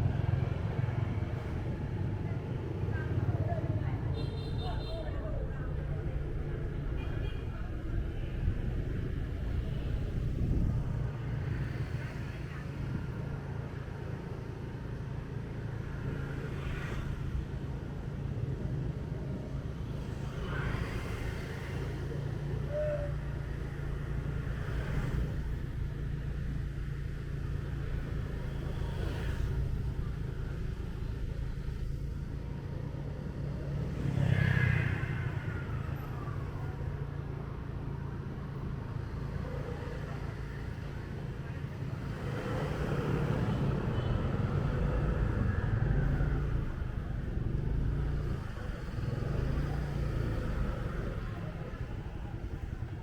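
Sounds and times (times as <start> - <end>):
traffic passing: 0.0 - 53.0.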